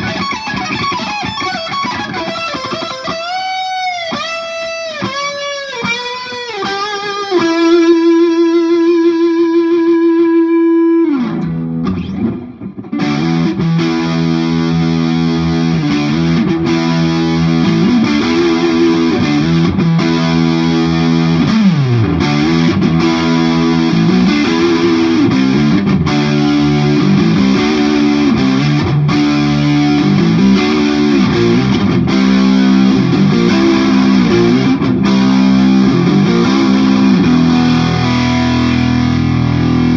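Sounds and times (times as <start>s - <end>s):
distorted electric guitar riffing: 0.0s - 39.9s
electric guitar bent notes: 0.0s - 39.9s.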